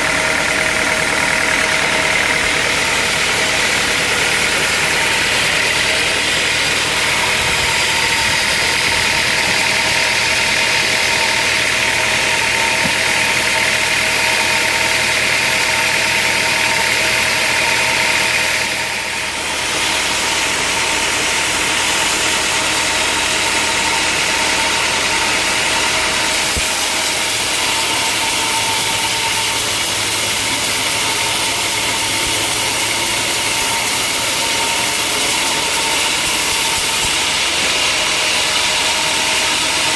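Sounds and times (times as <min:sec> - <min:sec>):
machinery whine: 0:00.0 - 0:39.9
sawmill machinery drone: 0:00.0 - 0:39.9.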